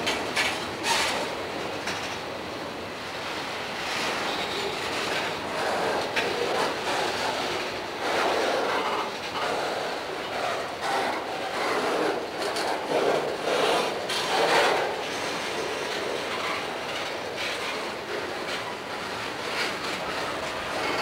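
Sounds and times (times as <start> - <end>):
train wheels clacking: 0.0 - 2.3, 3.1 - 21.0
freight cars rumbling and rattling: 0.0 - 21.0.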